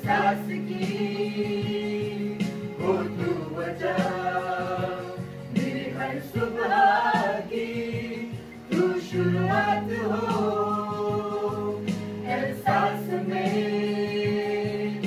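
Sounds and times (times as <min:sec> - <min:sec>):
group singing worship song: 0:00.0 - 0:15.0.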